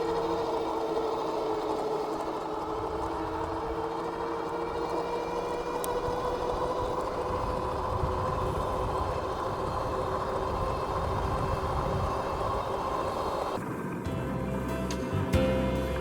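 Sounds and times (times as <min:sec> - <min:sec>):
electric motors whining: 0:00.0 - 0:16.0
wind and tyre rumble: 0:00.0 - 0:16.0.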